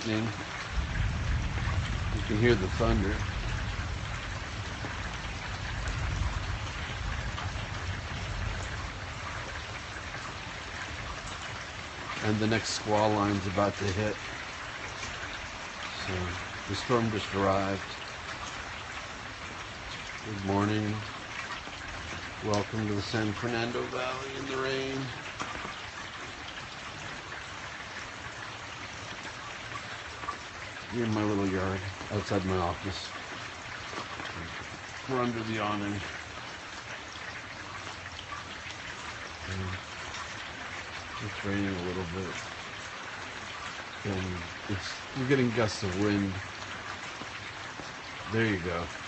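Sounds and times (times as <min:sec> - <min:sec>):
raindrop ticks: 0:00.0 - 0:49.0
steady rain falling: 0:00.0 - 0:49.0.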